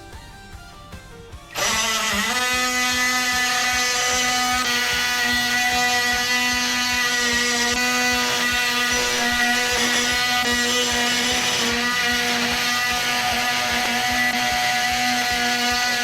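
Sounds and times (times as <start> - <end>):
oscillating multi-tool whine: 1.5 - 16.0.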